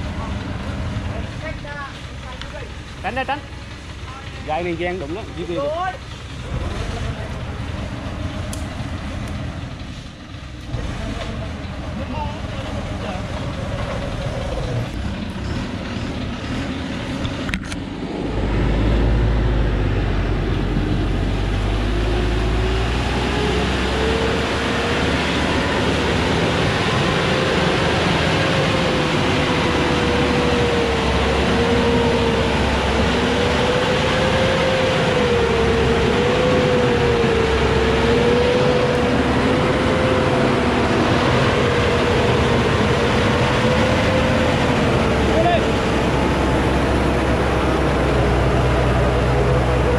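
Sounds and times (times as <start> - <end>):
truck diesel engine straining: 0.0 - 49.9.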